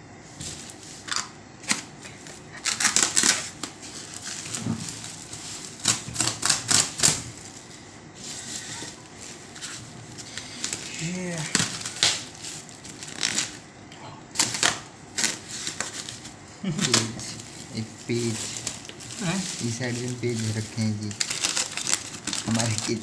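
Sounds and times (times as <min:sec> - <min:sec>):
plastic mailer bag crinkling: 0:01.7 - 0:13.6, 0:14.3 - 0:23.0.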